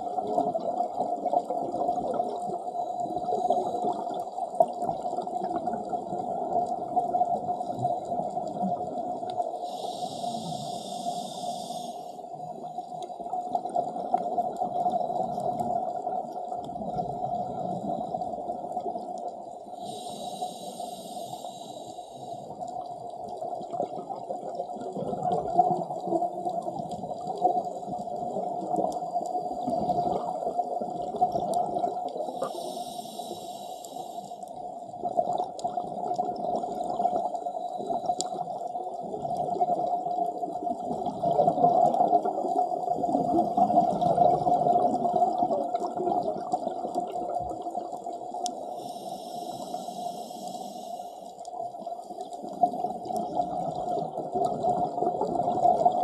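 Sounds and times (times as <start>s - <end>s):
dull underwater wash: 0.0s - 56.0s.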